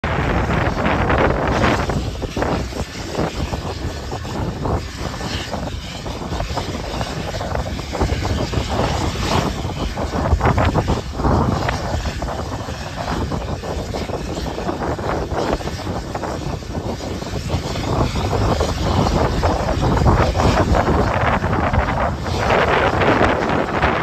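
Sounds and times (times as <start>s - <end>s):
gusty wind on microphone: 0.0s - 24.0s.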